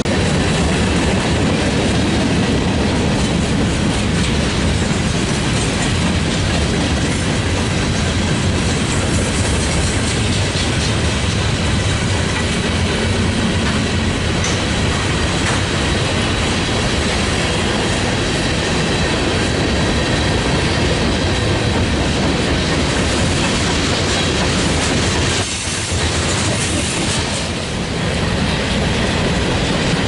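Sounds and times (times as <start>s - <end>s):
freight train wheels clacking: 0.0s - 30.0s.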